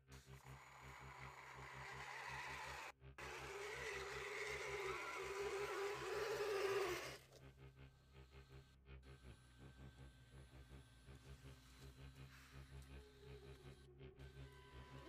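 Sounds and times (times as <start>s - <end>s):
electric motor whining: 0.1s - 15.0s.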